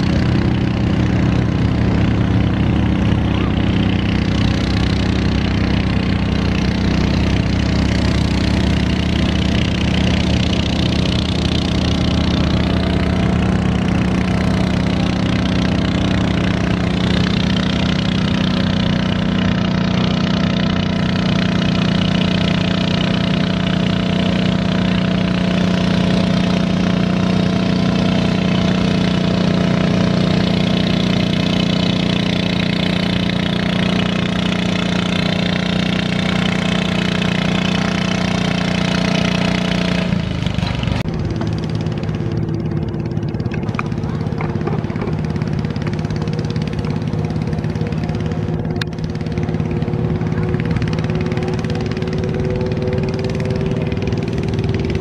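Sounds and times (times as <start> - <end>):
garden tractor engine under load: 0.0 - 55.0.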